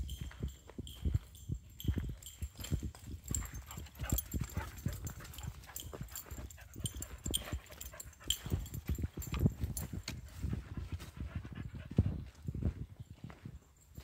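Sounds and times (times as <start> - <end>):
footsteps on muddy dirt: 0.0 - 14.0.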